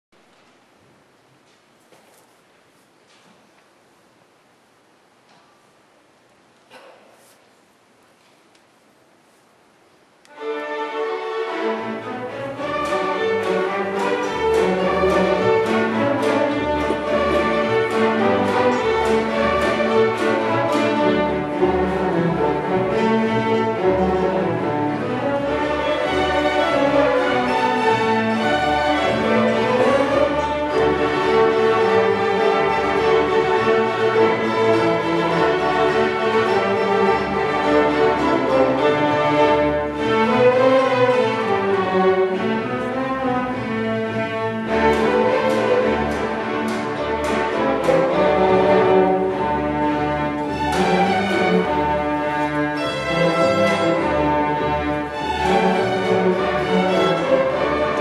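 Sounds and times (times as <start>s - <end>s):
string orchestra playing fiddle tunes: 10.2s - 58.0s.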